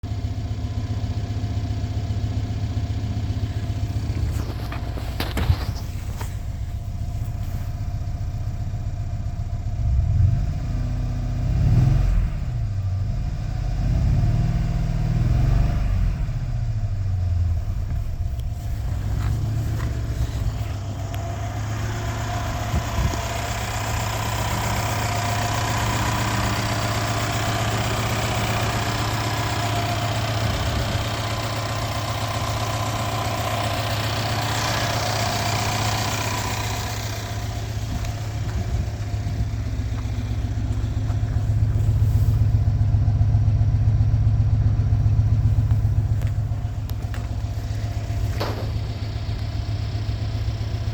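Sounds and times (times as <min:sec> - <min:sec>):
car engine idling and revving: 0:00.0 - 0:50.9.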